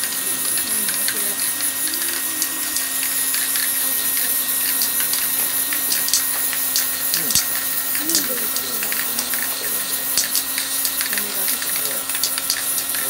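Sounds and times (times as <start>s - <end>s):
spray paint can hissing: 0.0s - 13.0s.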